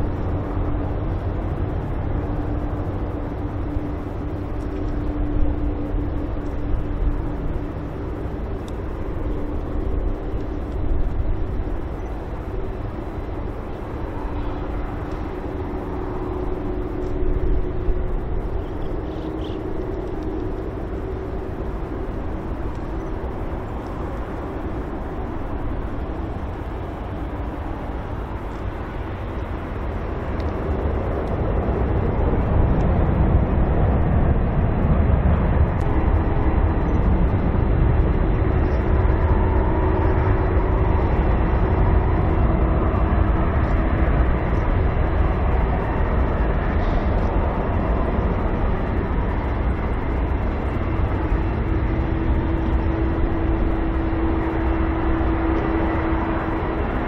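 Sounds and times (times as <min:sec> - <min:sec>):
jet engines at taxi power: 0:00.0 - 0:57.0.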